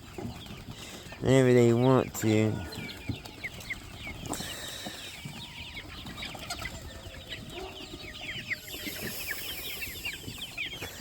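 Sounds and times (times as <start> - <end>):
chickens peeping: 0.0 - 11.0.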